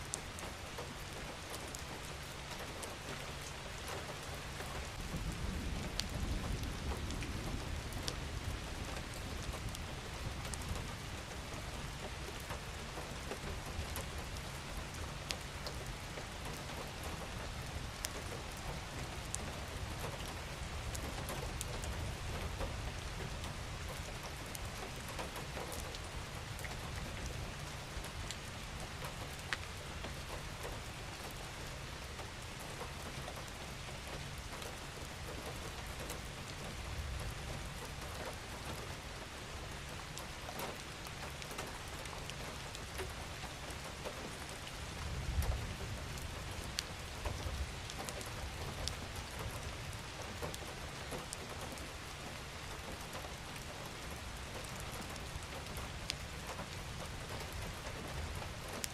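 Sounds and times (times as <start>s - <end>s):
raindrops ticking on a surface: 0.0s - 58.9s
steady rain hiss: 0.0s - 58.9s.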